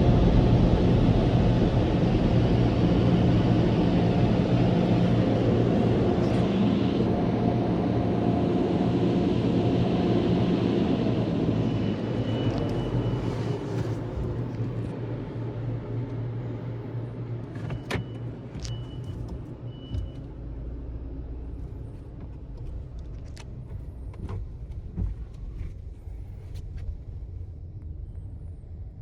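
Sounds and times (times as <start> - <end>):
car engine low rumble: 0.0 - 29.0.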